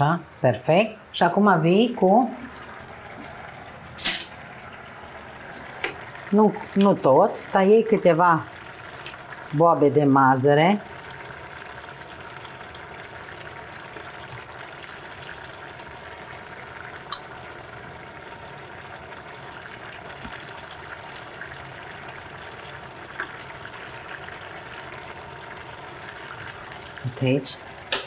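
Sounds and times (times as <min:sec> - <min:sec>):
stew simmering with bubbling hiss: 0:00.0 - 0:28.0.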